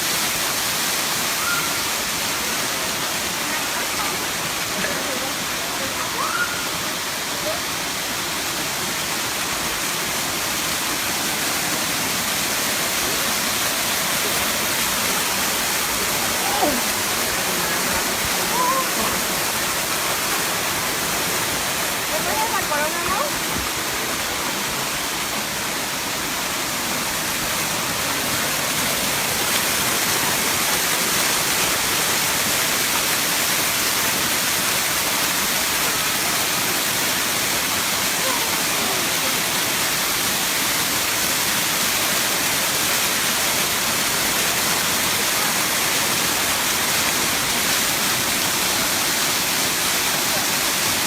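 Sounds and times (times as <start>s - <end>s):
water cascading over rocks: 0.0s - 51.0s.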